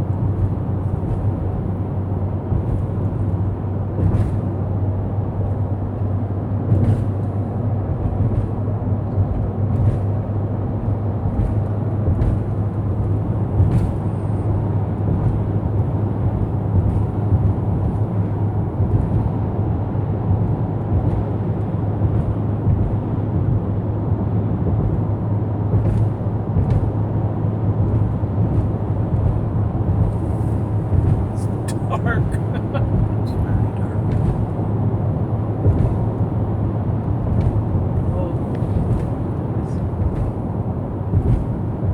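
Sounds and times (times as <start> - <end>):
car cabin road and engine noise: 0.0 - 41.9.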